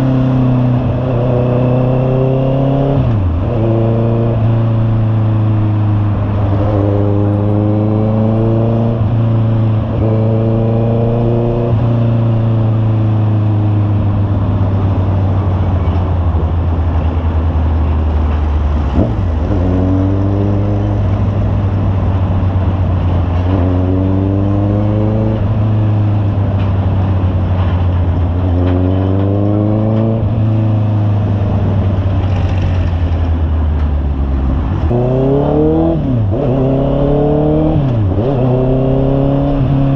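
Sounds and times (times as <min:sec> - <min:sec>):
motorcycle engine accelerating: 0:00.0 - 0:33.6, 0:34.2 - 0:39.9.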